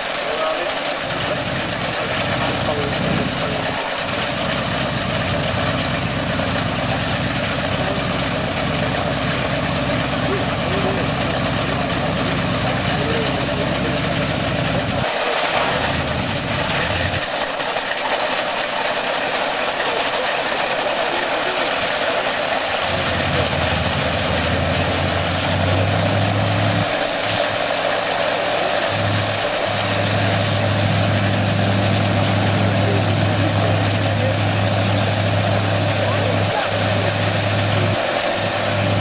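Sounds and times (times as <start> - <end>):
aircraft piston engines idling: 0.0 - 39.0.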